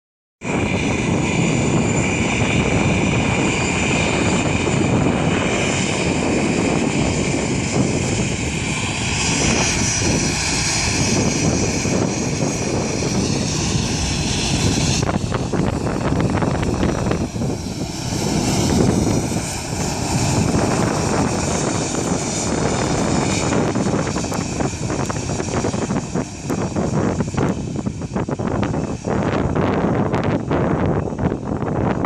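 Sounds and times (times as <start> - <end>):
jet engine roar: 0.4 - 32.0
high fan whine: 0.5 - 32.0.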